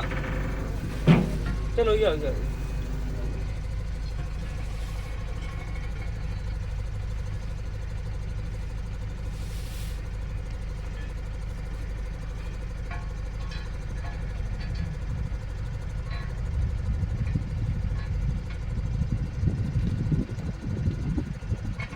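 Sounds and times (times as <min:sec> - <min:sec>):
heavy machinery engine running: 0:00.0 - 0:21.9.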